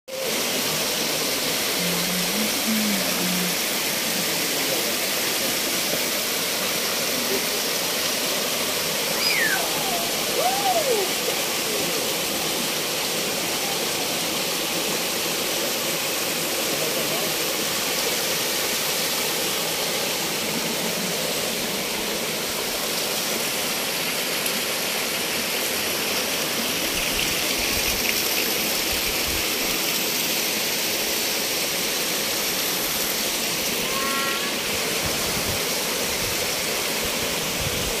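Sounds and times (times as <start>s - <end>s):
waterfall and stream flowing: 0.1s - 38.0s.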